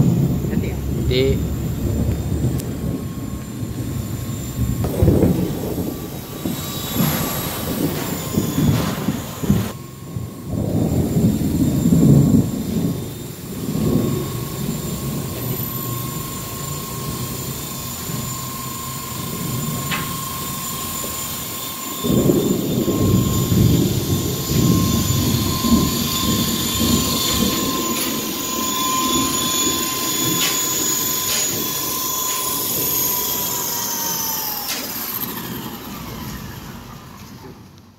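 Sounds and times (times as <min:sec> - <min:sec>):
rushing air: 0:00.0 - 0:36.7
toy helicopter motor whine: 0:00.0 - 0:37.9.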